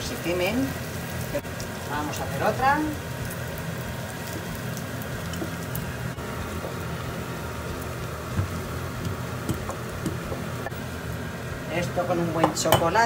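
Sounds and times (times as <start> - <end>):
dough sizzling in hot oil: 0.0 - 13.0
low steady hum: 0.0 - 13.0.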